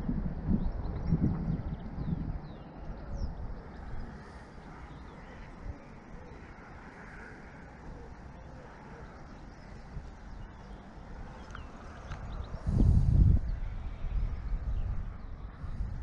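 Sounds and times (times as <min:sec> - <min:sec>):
wind buffeting microphone: 0:00.0 - 0:08.1, 0:09.0 - 0:16.0.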